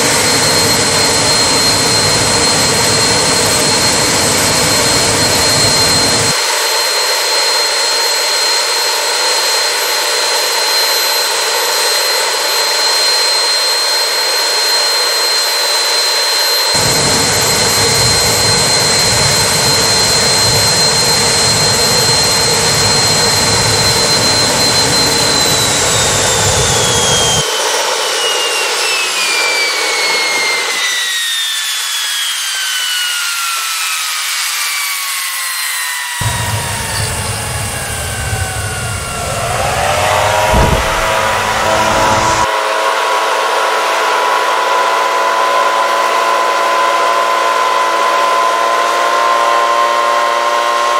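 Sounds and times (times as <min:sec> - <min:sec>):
jet engine rushing roar: 0:00.0 - 0:33.8, 0:35.6 - 0:44.6
jet engine turbine whine: 0:00.0 - 0:50.9.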